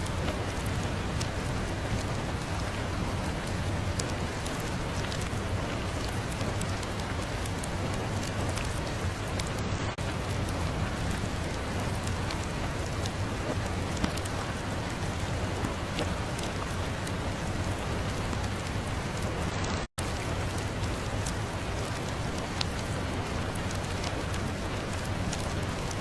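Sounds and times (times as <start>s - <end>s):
raindrop ticks: 0.0s - 26.0s
steady rain hiss: 0.0s - 26.0s.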